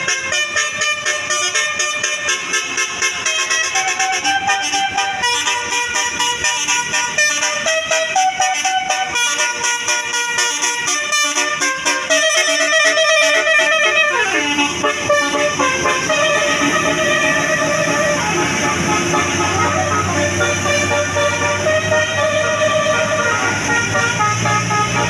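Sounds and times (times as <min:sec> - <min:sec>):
musical bus horn melody: 0:00.0 - 0:25.0.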